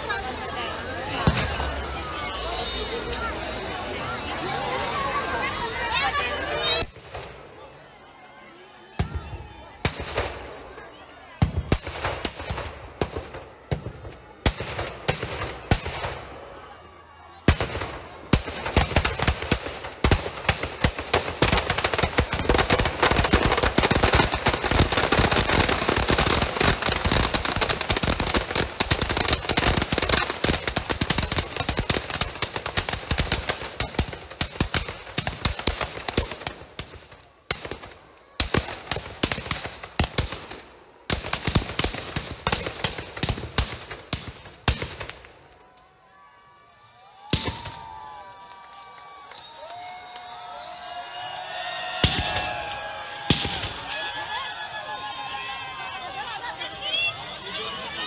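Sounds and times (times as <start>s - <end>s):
firecrackers banging and crackling: 0.0s - 7.6s, 9.0s - 16.7s, 17.4s - 45.9s, 47.1s - 58.0s.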